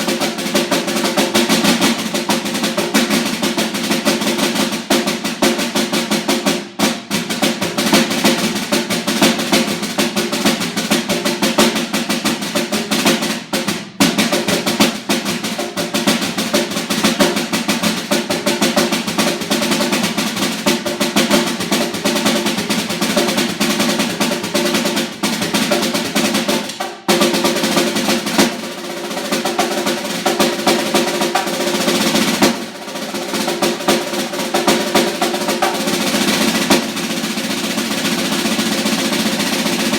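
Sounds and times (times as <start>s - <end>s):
snare drum rolls: 0.0s - 39.9s.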